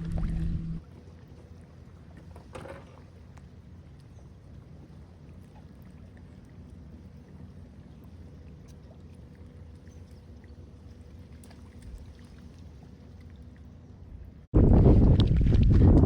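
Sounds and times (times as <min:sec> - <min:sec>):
water and hull rumble: 0:00.0 - 0:16.0.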